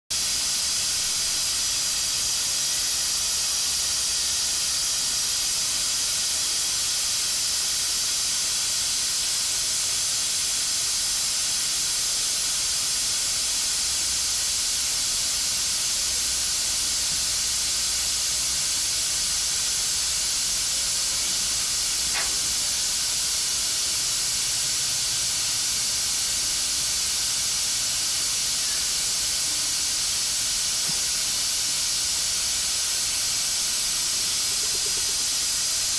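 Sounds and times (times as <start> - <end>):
water spray hissing: 0.1 - 35.9.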